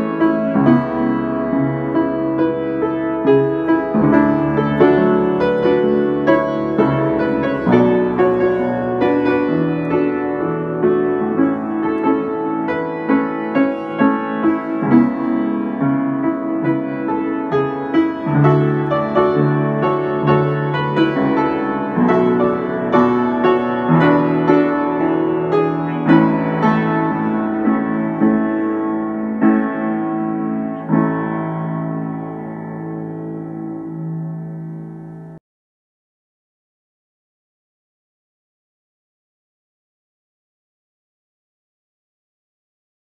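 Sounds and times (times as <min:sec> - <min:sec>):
upright piano playing hymn tune: 0:00.0 - 0:35.4.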